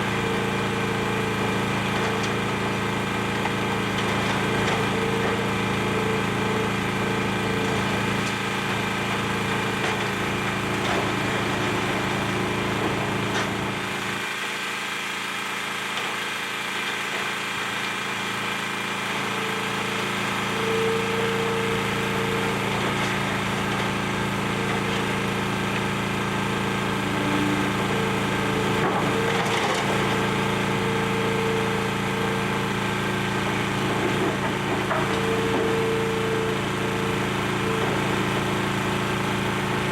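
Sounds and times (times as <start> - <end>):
engine whine: 0.0 - 14.4, 17.9 - 39.9
excavator diesel engine running: 0.0 - 39.9.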